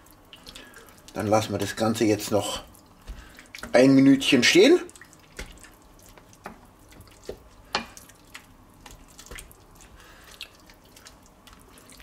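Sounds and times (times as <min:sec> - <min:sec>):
wet squelching of noodles: 0:00.0 - 0:12.0.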